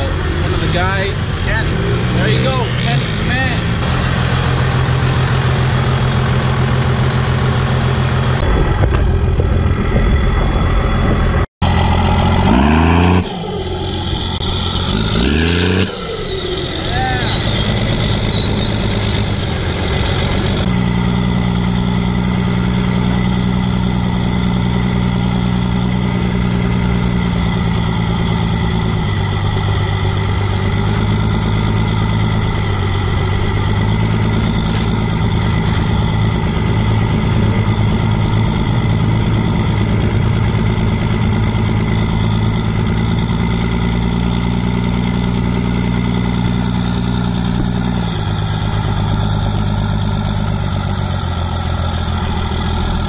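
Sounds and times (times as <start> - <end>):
diesel truck engine idling: 0.0 - 53.0.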